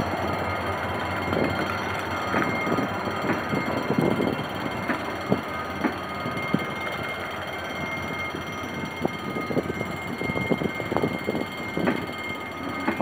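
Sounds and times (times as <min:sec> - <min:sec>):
thin steady whine: 0:00.0 - 0:13.0
train rumble: 0:00.0 - 0:13.0
train wheels clicking over rail joints: 0:00.0 - 0:13.0.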